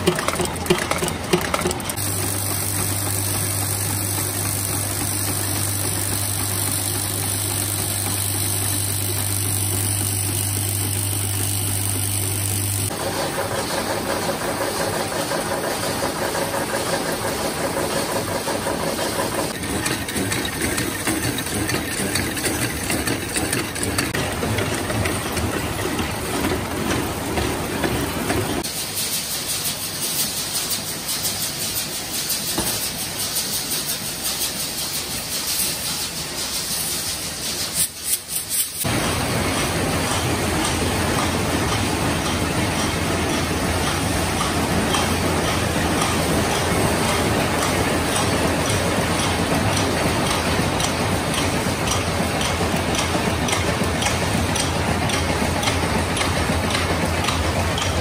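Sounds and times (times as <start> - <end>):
machinery clatter and hum: 0.0 - 58.0.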